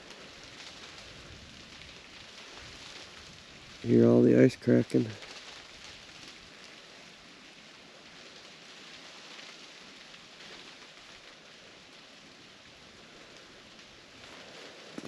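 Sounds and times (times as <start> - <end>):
ice crackling on tree branches: 0.0 - 15.0.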